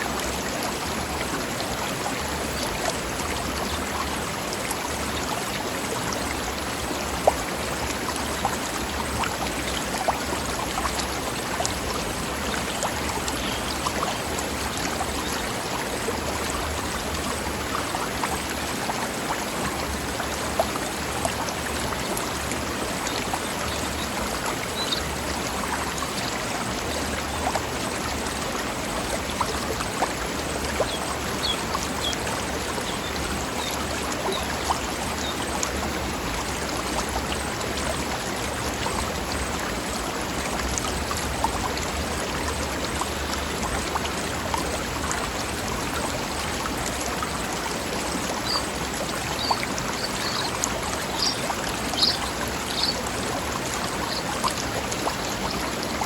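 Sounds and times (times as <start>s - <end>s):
river running over rocks: 0.0s - 56.0s.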